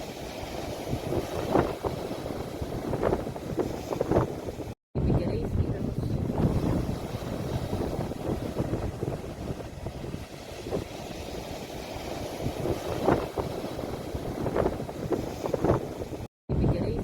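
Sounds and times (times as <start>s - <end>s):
ocean waves washing: 0.0s - 17.0s
wind buffeting microphone: 0.0s - 17.0s.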